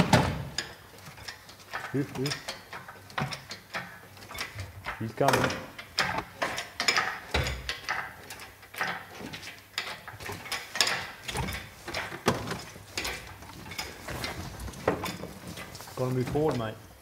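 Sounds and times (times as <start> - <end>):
crane chain clicking and clanking: 0.0 - 16.7.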